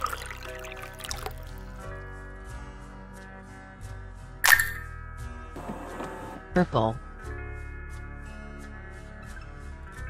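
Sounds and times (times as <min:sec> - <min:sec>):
light instrumental music: 0:00.0 - 0:10.0.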